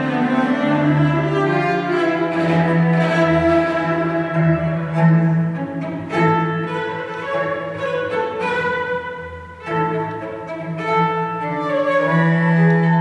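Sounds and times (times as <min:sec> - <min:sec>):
cello bowed notes: 0:00.0 - 0:13.0.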